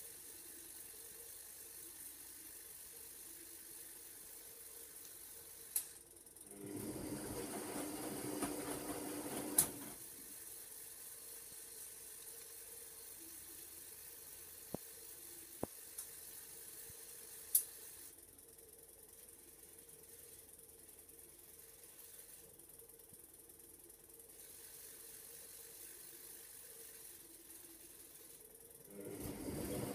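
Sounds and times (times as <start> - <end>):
washing machine motor whirring: 0.0 - 29.9.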